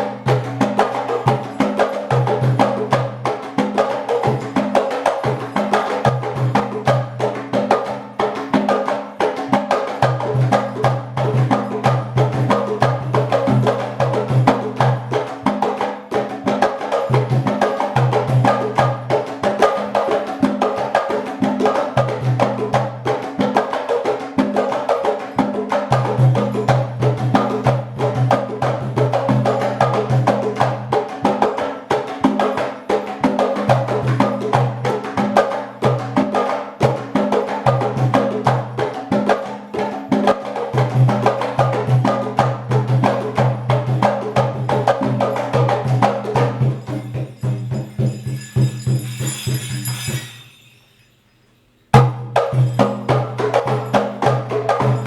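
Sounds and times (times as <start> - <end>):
percussion playing fast pattern: 0.0 - 55.0.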